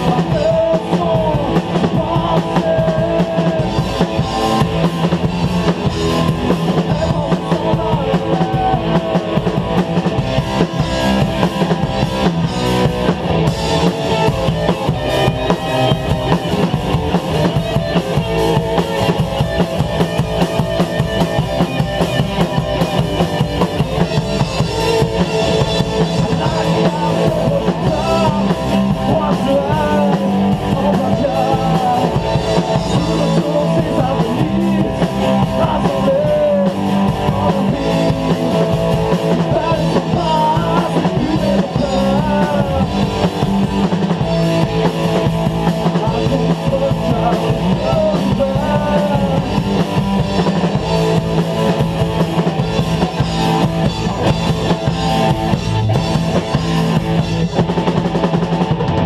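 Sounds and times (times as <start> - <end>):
fast drum beat: 0.0 - 59.0
rock band playing live: 0.0 - 59.0.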